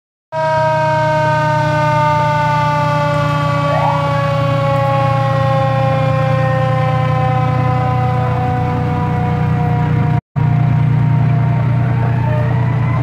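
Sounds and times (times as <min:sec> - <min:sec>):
fire engine siren wailing: 0:00.3 - 0:13.0
rising siren whoop: 0:00.3 - 0:13.0
truck engine rumble: 0:00.4 - 0:13.0.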